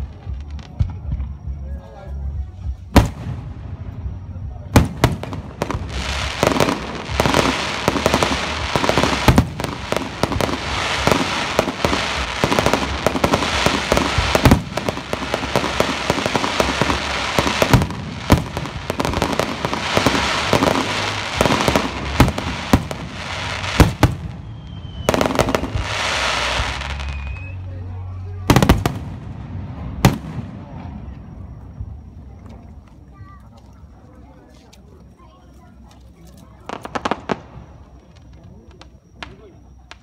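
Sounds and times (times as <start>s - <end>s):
fireworks crackling: 0.0s - 33.4s, 35.7s - 40.0s.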